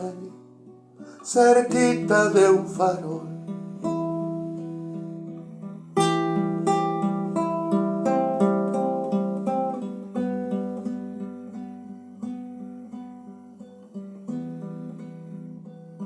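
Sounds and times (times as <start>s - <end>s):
acoustic guitar playing chords: 0.0s - 16.0s.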